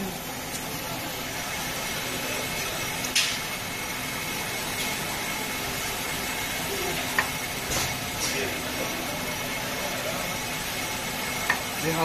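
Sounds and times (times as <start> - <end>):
pleating machine running: 0.0 - 12.0.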